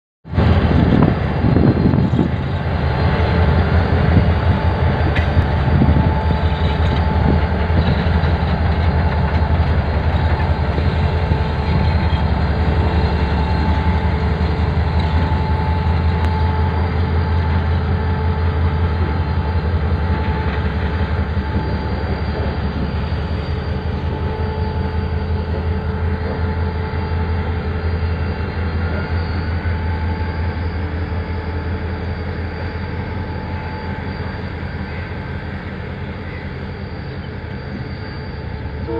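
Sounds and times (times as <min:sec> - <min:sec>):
locomotive engine deep drone: 0:00.3 - 0:38.9.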